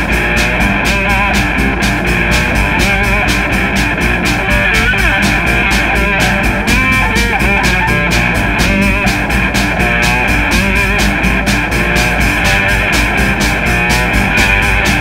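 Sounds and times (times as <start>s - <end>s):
fast drum beat: 0.0s - 15.0s
rock music with guitar: 0.0s - 15.0s.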